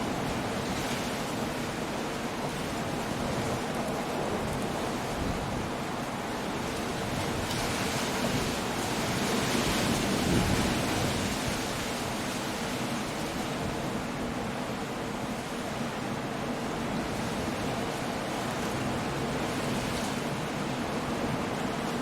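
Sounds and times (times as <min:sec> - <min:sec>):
sea wash: 0:00.0 - 0:22.0
wind: 0:00.0 - 0:22.0.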